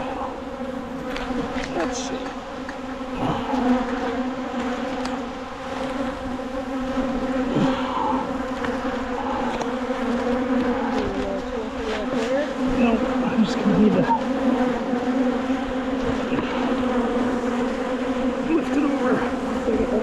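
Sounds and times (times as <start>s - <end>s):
honeybees buzzing: 0.0s - 20.0s
single bee flying past: 0.0s - 20.0s.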